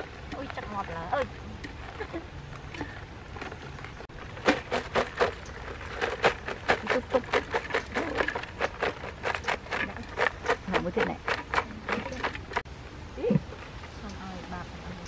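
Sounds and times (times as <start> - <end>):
crabs clattering in a basket: 0.0 - 12.6.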